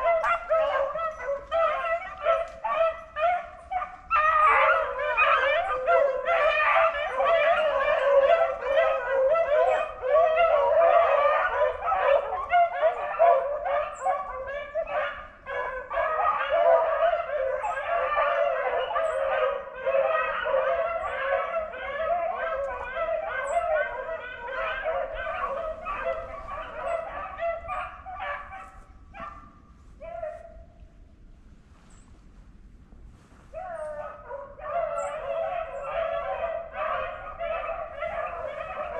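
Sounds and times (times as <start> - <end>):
hounds baying: 0.0 - 30.6, 33.6 - 38.9.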